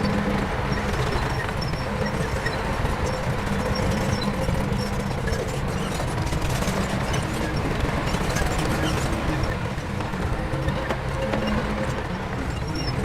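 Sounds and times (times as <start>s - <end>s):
diesel machinery rumbling: 0.0s - 13.0s.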